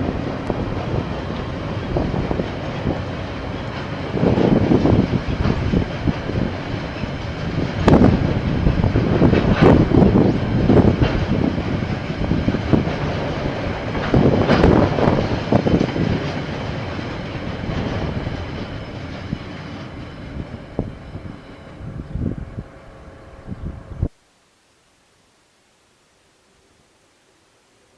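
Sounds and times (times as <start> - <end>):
wheels clacking on rail joints: 0.0 - 23.4
train rumbling past: 0.0 - 24.1.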